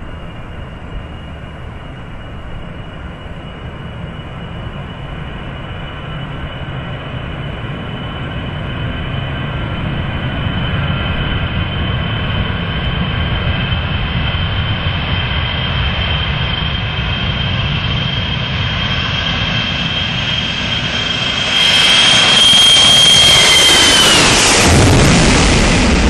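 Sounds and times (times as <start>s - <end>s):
jet engines at take-off power: 0.0s - 26.0s.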